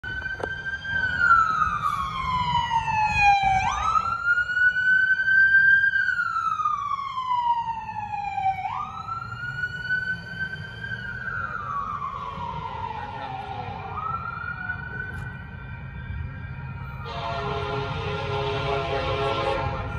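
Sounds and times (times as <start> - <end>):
police siren wailing: 0.0 - 19.9.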